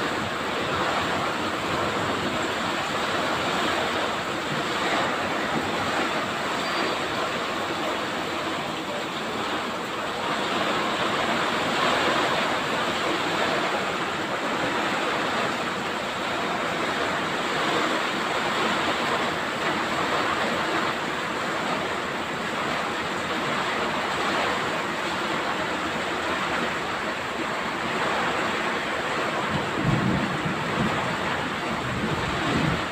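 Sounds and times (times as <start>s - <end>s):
heavy rain downpour: 0.0s - 32.9s.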